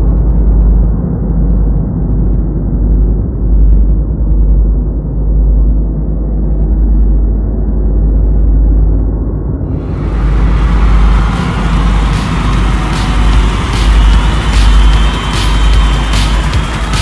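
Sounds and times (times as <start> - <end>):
muffled bass-heavy soundtrack: 0.0 - 17.0.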